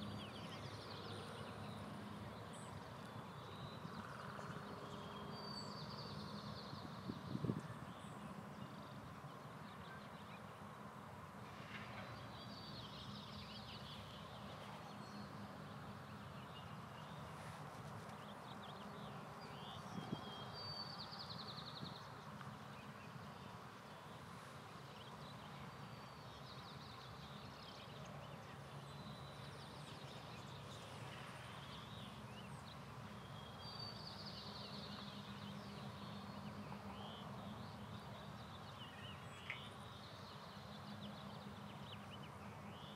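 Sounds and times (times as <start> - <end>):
outdoor background hum: 0.0 - 42.9.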